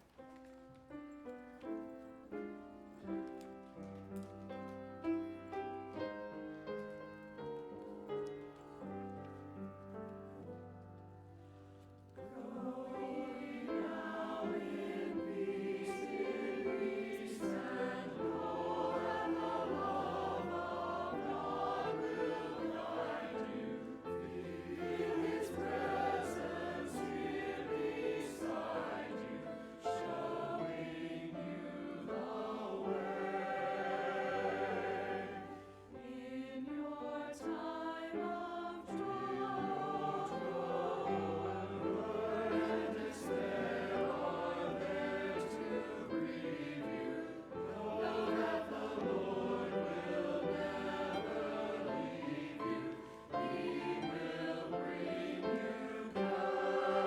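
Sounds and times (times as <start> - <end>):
choir singing slowly: 0.9 - 57.0.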